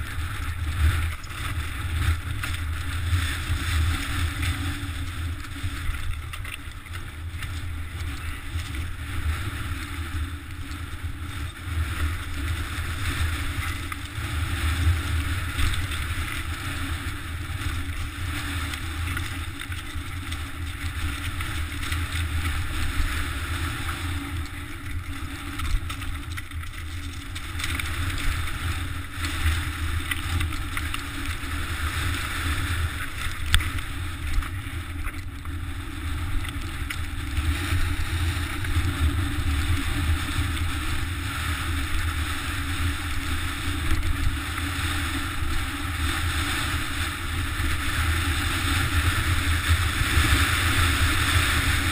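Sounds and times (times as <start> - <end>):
bike rolling over rocky scree: 0.0 - 51.9.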